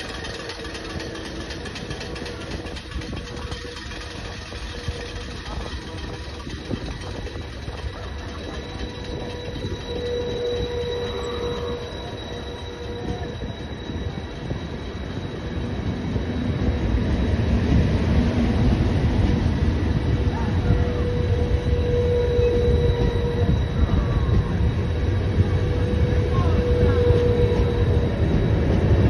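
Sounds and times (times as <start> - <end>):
running gear squeal: 0.0 - 17.4, 20.6 - 29.0
train coaches rumbling on rails: 0.0 - 29.0.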